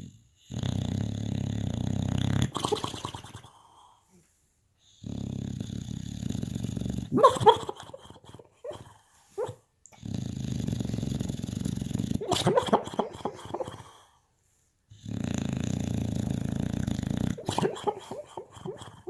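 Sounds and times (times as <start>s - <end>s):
dog snoring: 0.0s - 3.6s, 4.8s - 7.5s, 8.7s - 14.1s, 14.9s - 19.0s.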